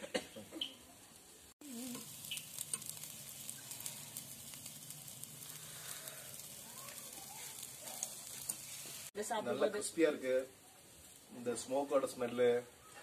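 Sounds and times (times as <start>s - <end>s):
fire crackling: 0.4s - 13.0s
fish sizzling on a grill: 0.4s - 13.0s.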